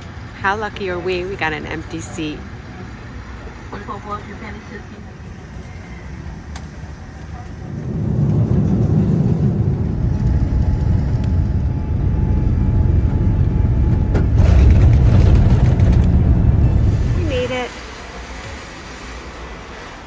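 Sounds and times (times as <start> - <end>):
jet engines and rushing air: 0.0 - 20.0.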